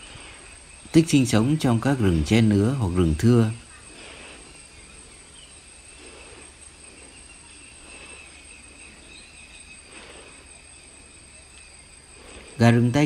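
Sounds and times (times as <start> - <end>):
faint background hiss: 0.0 - 13.0
insects high-pitched tones: 0.0 - 13.0.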